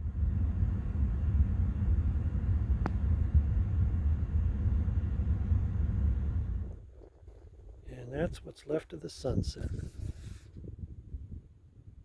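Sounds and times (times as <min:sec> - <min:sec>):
wind buffeting microphone: 0:00.0 - 0:08.5, 0:09.2 - 0:12.0.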